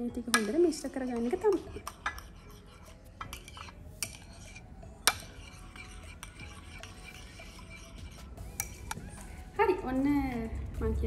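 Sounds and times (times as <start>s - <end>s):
spoon stirring in ceramic bowl: 0.1s - 9.4s.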